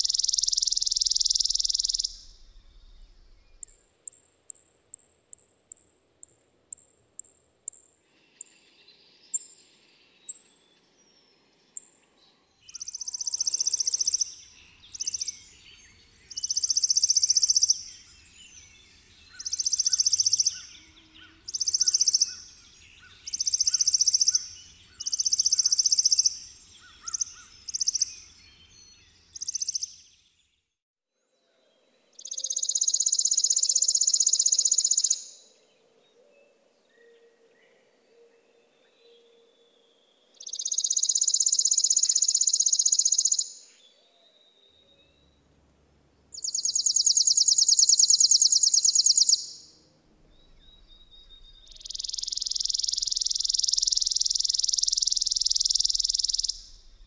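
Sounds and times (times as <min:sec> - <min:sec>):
sparrow trills: 0:00.0 - 0:30.4, 0:32.2 - 0:45.5, 0:46.3 - 0:57.0
faint other birds: 0:00.0 - 0:57.0.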